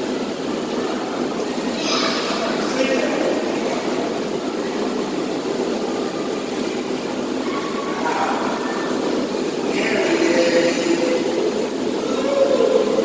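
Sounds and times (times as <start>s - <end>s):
indoor swimming pool room noise: 0.0s - 13.0s.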